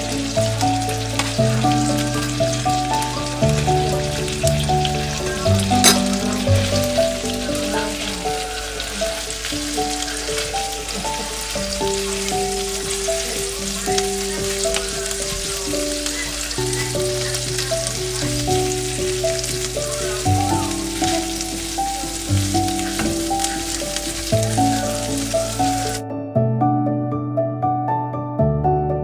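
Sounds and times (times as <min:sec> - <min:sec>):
food sizzling in a pan: 0:00.0 - 0:26.0
background music with simple melody: 0:00.0 - 0:29.0.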